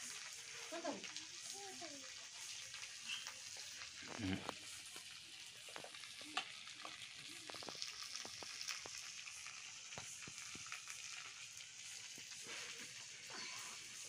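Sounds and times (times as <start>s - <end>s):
crab sizzling in oil: 0.0s - 14.0s
oil pops and crackles: 0.0s - 14.0s.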